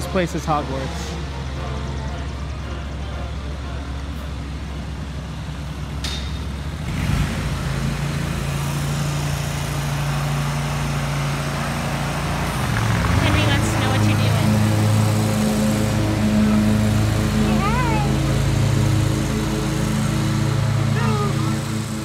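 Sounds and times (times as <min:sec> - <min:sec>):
street traffic: 0:00.0 - 0:22.0
vehicle engine hum: 0:00.0 - 0:22.0.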